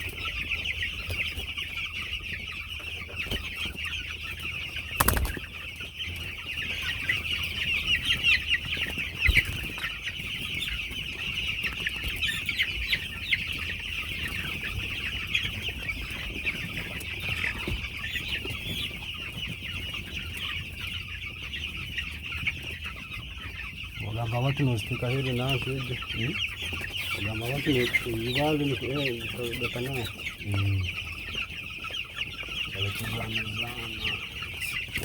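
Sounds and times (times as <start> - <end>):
chicks peeping: 0.0 - 35.0.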